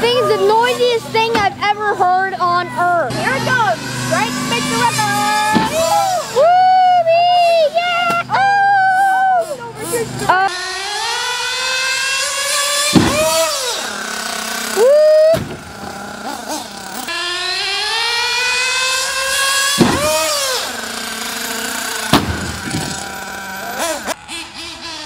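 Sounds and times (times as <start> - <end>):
small engine revving whine: 0.0 - 25.0.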